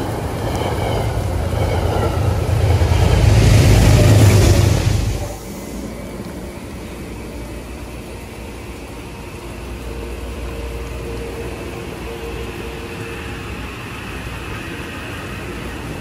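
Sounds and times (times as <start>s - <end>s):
electric train rumbling past: 0.0s - 16.0s
faint steady whine: 0.0s - 16.0s.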